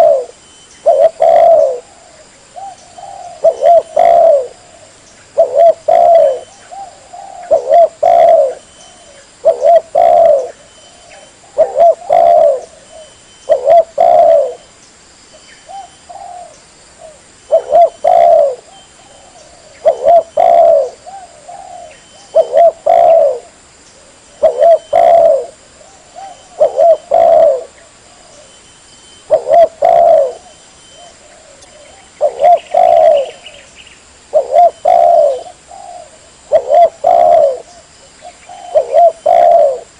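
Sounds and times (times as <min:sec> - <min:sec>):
dove cooing: 0:00.0 - 0:14.7, 0:15.7 - 0:28.6, 0:29.2 - 0:39.9.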